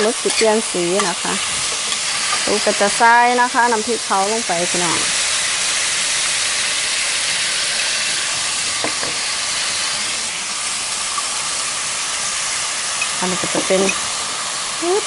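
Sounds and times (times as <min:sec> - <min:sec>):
squid sizzling in oil: 0:00.0 - 0:15.0.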